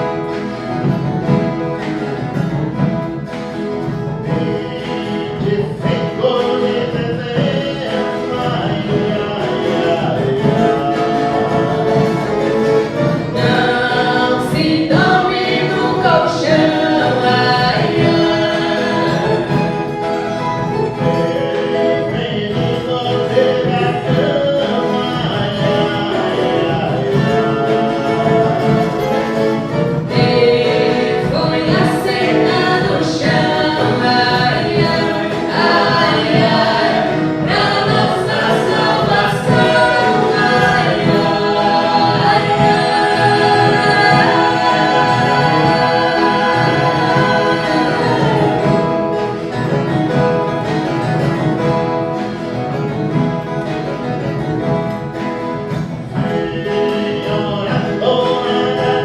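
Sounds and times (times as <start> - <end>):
group of voices singing: 0.0 - 59.0
plucked strings: 0.0 - 59.0.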